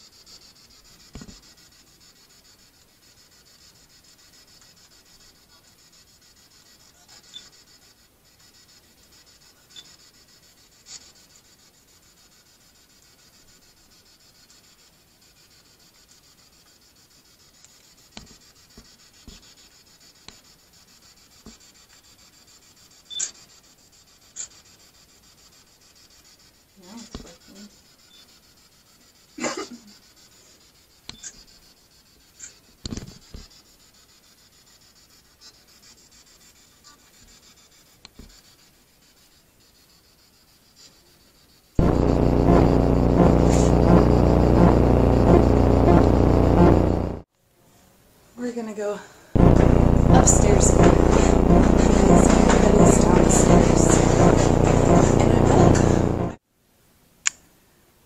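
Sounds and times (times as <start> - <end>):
faint hiss: 0.0 - 54.2.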